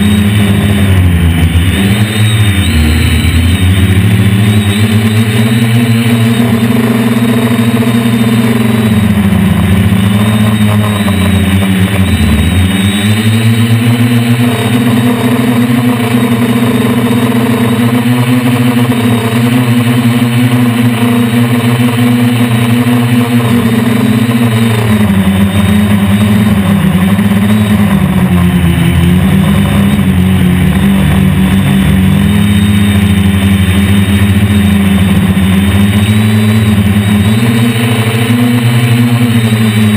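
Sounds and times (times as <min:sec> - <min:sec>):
quadcopter motors droning: 0:00.0 - 0:39.9.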